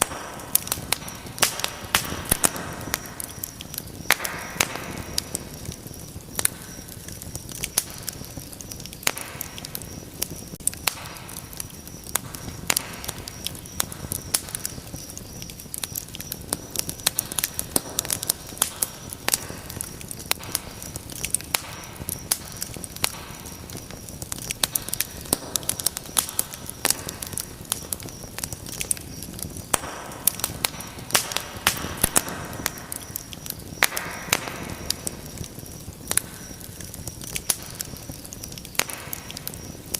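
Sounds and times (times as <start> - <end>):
low hiss of flame: 0.0 - 39.9
wood fire crackling and popping: 0.0 - 39.9.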